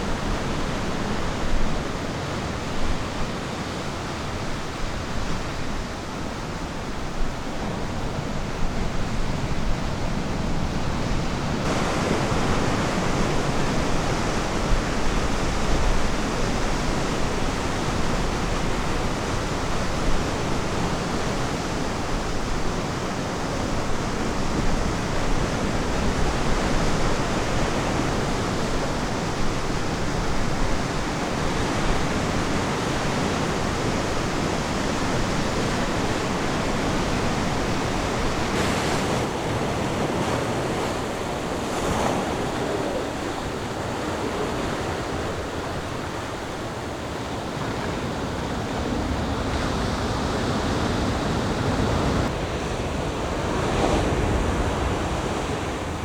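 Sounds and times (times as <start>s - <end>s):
ocean waves breaking on beach: 0.0s - 56.0s
wind: 0.0s - 56.0s.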